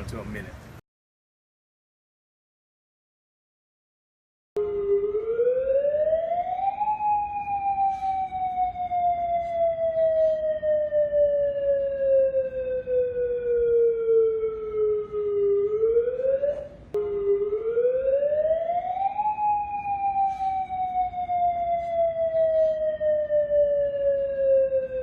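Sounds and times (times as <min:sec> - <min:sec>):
wailing warning siren: 0:04.6 - 0:25.0.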